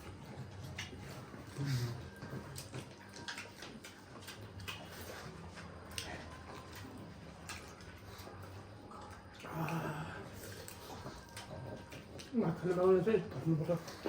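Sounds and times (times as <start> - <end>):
chewing and smacking: 0.0 - 14.0.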